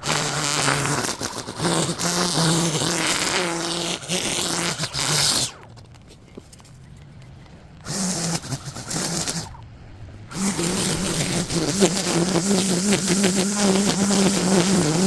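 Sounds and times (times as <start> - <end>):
small engine buzzing: 0.0 - 5.7, 7.8 - 9.6, 10.3 - 15.0.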